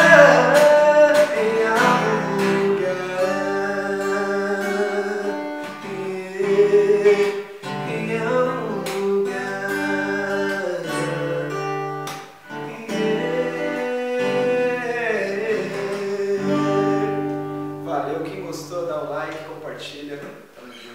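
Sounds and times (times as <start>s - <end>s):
man singing slow song: 0.0s - 17.3s
acoustic guitar: 0.0s - 20.9s.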